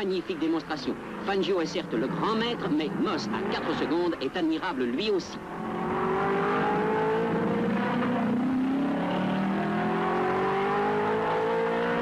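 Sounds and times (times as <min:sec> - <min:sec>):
racing car engine accelerating: 0:00.8 - 0:04.4, 0:05.4 - 0:12.0.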